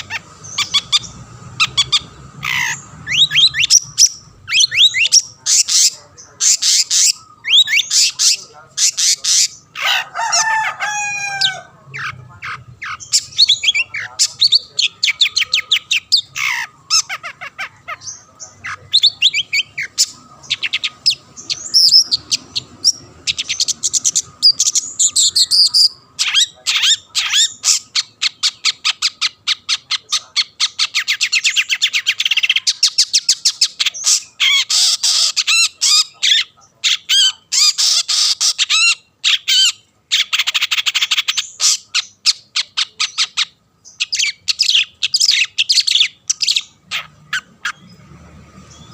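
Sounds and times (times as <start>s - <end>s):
bird singing with harsh chattering: 0.0s - 48.9s.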